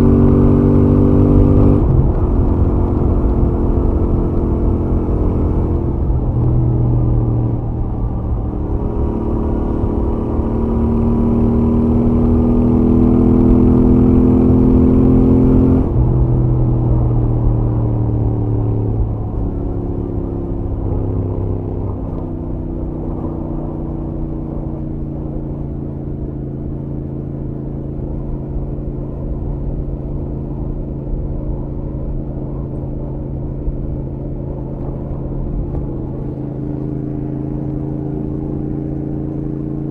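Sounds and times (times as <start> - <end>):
low wind rumble: 0.0 - 39.9
motorcycle engine accelerating: 0.0 - 39.9.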